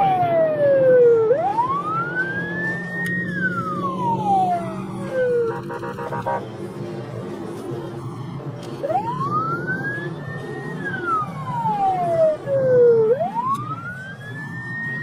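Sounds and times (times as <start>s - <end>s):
police siren wailing: 0.0s - 6.5s, 8.0s - 15.0s
car engine and road noise: 0.0s - 15.0s.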